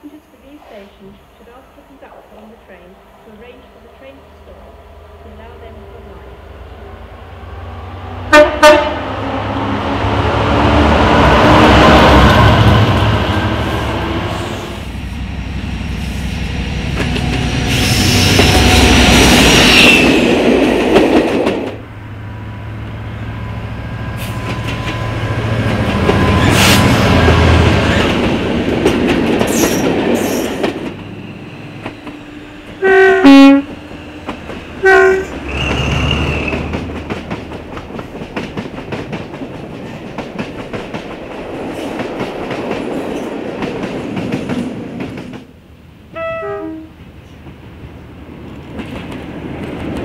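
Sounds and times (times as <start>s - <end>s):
diesel locomotive engine rumble: 0.0s - 50.0s
train wheels on rails: 7.3s - 45.6s, 46.9s - 50.0s.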